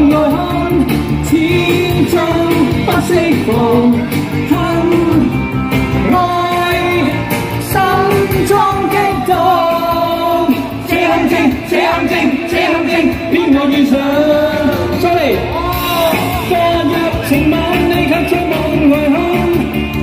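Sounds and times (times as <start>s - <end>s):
person singing live pop song: 0.0s - 20.0s.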